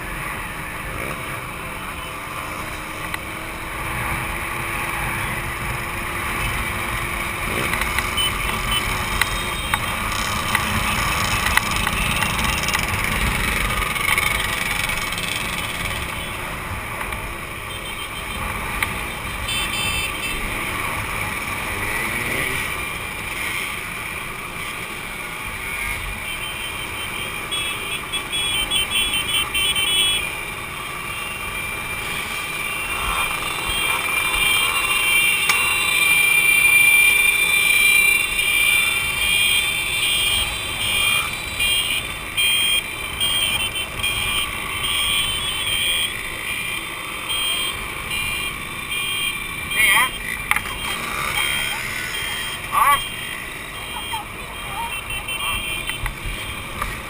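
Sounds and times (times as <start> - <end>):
two-stroke motorcycle engines: 0.0 - 57.0.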